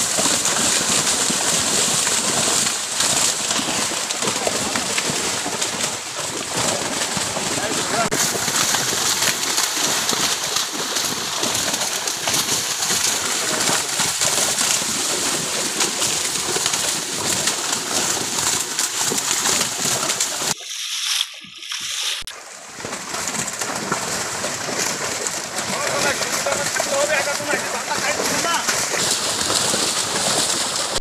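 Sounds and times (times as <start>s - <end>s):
fish splashing in water: 0.0s - 31.0s.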